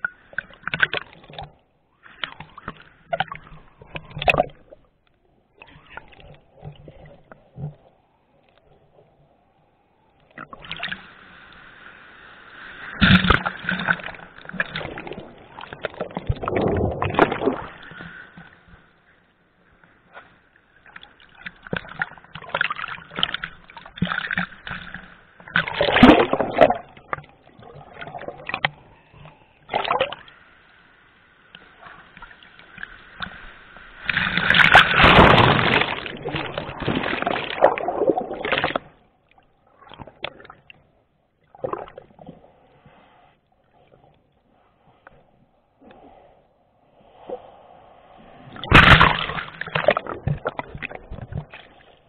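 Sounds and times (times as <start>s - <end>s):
water splashing and sloshing: 0.0s - 11.8s, 12.5s - 30.5s, 31.5s - 52.0s.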